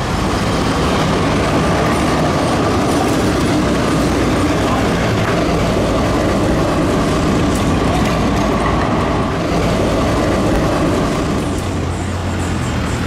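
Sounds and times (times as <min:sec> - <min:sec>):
tram rolling rumble: 0:00.0 - 0:13.0.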